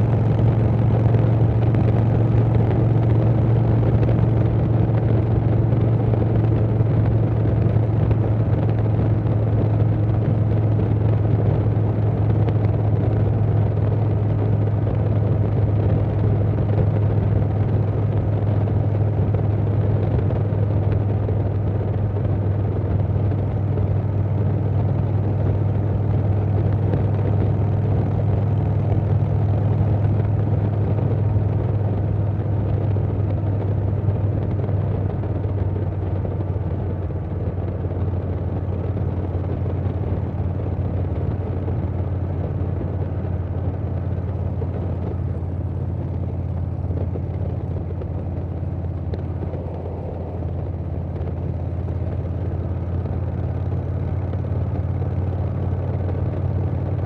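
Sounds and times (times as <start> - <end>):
motorcycle engine cruising: 0.0 - 57.0
wind rush over microphone: 0.0 - 57.0.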